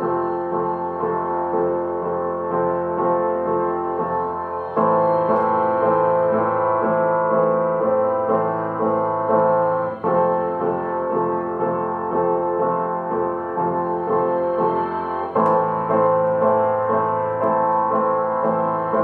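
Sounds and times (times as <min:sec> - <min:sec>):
slow piano-led music: 0:00.0 - 0:19.0.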